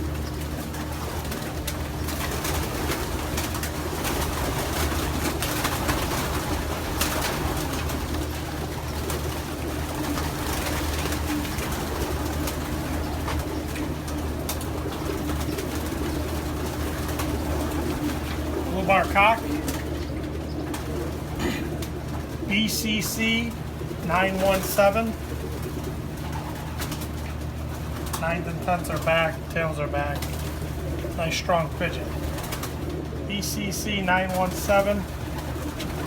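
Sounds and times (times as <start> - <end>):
pigeons cooing: 0.0 - 36.0
steady low hum: 0.0 - 36.0.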